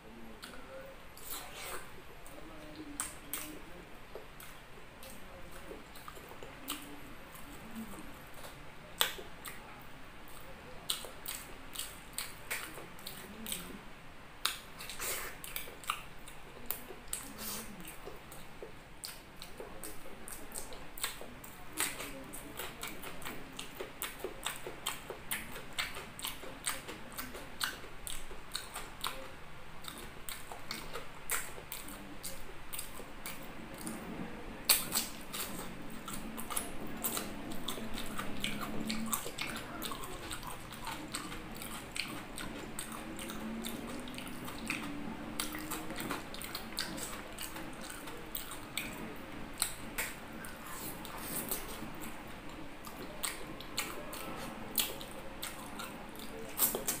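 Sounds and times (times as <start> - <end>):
man chewing with mouth smacks: 0.0 - 57.0.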